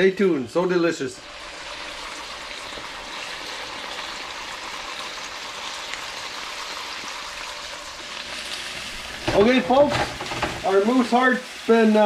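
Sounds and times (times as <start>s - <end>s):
meat sizzling in a frying pan: 1.2s - 12.0s.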